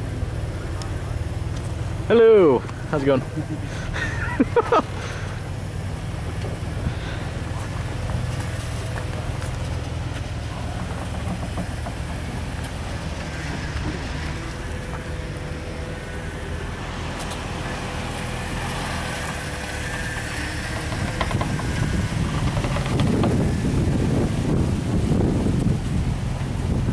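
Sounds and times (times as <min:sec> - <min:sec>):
off-road vehicle engine running: 0:00.0 - 0:26.9.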